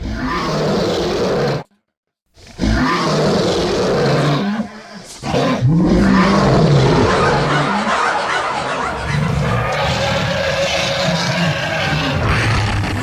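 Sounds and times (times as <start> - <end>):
monster roars: 2.4 - 13.0.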